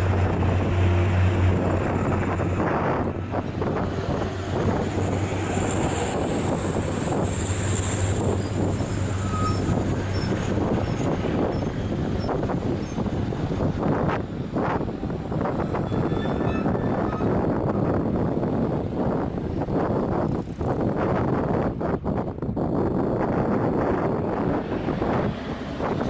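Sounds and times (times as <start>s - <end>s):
diesel truck engine labouring: 0.0s - 26.0s
road noise: 0.0s - 26.0s.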